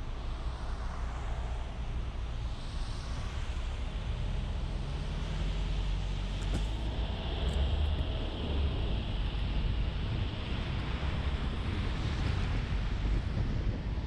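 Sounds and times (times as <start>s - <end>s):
vehicle engine and tyre rumble: 0.0s - 14.0s.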